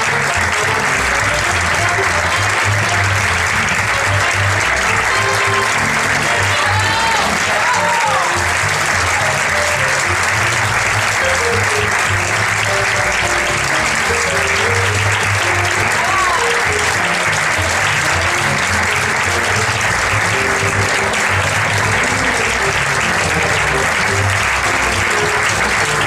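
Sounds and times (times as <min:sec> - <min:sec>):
audience applauding: 0:00.0 - 0:26.0
music playing: 0:00.0 - 0:26.0.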